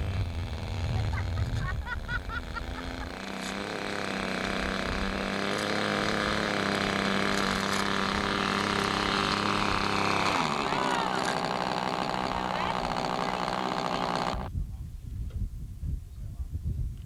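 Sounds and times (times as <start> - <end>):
model airplane engine buzzing: 0.0 - 14.5.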